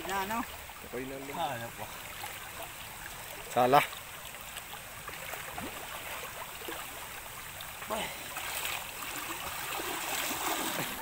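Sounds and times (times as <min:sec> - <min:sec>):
stream water swirling: 0:00.0 - 0:11.0.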